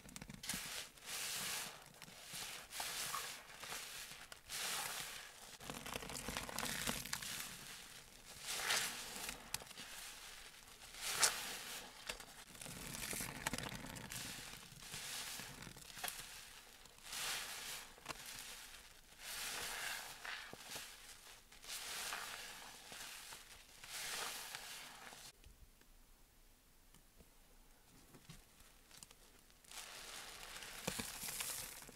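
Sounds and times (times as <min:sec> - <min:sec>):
sponge squelching in foam: 0:00.5 - 0:25.3, 0:29.7 - 0:31.9.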